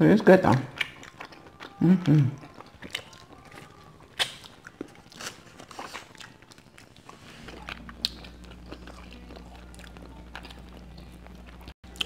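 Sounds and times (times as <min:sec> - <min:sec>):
chewing with wet smacks: 0:00.0 - 0:12.0
low steady hum: 0:00.0 - 0:12.0.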